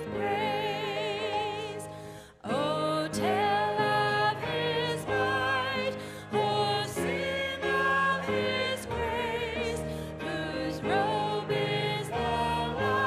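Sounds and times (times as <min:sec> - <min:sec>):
woman singing a hymn: 0:00.0 - 0:13.0.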